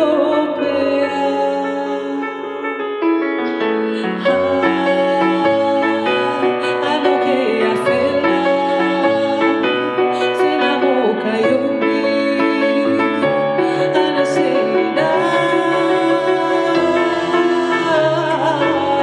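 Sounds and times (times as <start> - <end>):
woman singing: 0.0 - 2.9, 3.9 - 19.0
sustained keyboard chords: 0.0 - 19.0.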